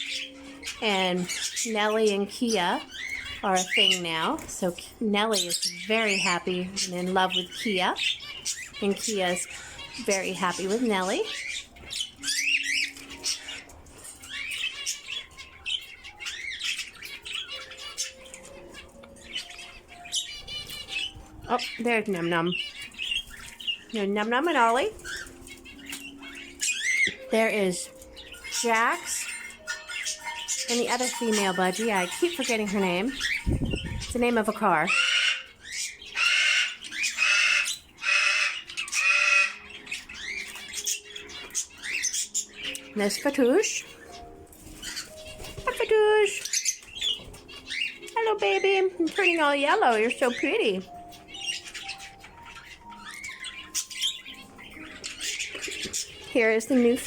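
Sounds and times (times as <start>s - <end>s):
parrots chirping and squawking: 0.0s - 57.0s.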